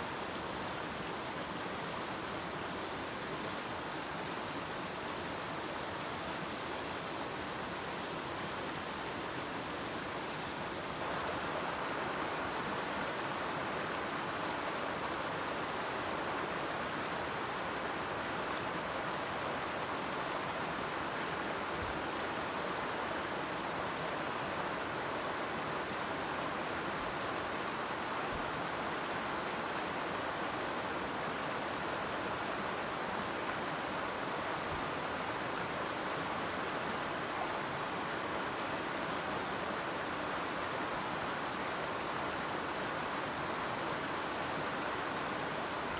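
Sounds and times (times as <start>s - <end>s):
shallow river flowing: 0.0s - 45.9s.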